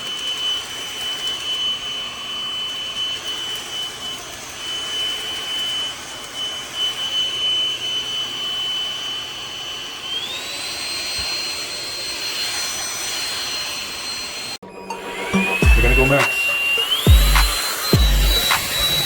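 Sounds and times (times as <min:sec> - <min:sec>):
stick vacuum motor whine: 0:00.0 - 0:19.0.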